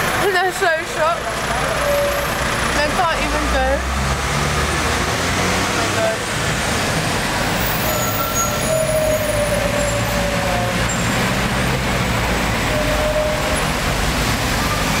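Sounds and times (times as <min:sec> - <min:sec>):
car engines passing: 0:00.0 - 0:15.0.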